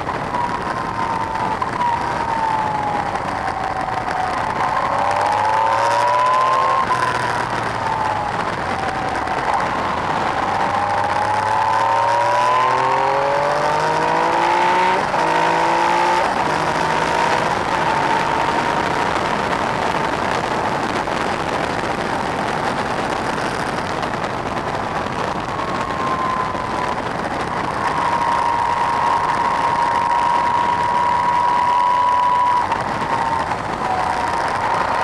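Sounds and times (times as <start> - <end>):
motorcycle engine cruising: 0.0 - 35.0
rush of riding wind: 0.0 - 35.0.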